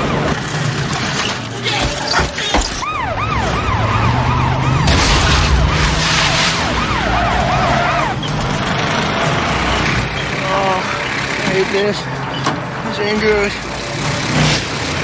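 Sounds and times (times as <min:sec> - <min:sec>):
police siren yelping: 0:00.0 - 0:12.2
car engine running hard: 0:00.0 - 0:15.0.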